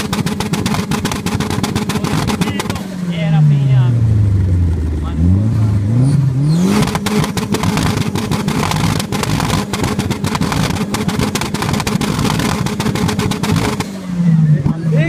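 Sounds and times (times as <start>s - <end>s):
car engine revving: 0.0s - 15.0s
exhaust crackling and backfiring: 0.0s - 15.0s.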